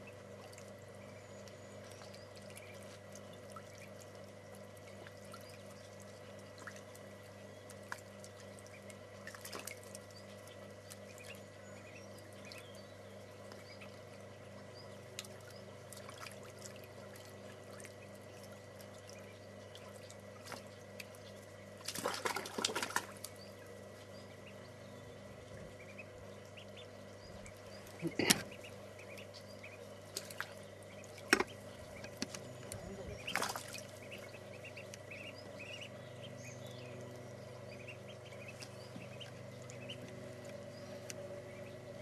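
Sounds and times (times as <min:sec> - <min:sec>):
ducklings splashing in water: 0:00.0 - 0:42.0
steady low hum: 0:00.0 - 0:42.0.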